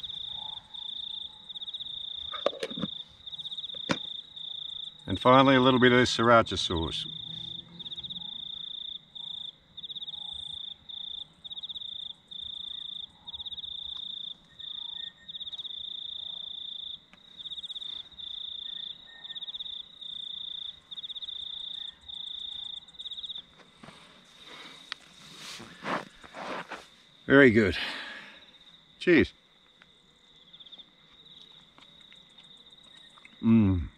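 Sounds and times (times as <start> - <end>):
cricket trilling: 0.0 - 33.9.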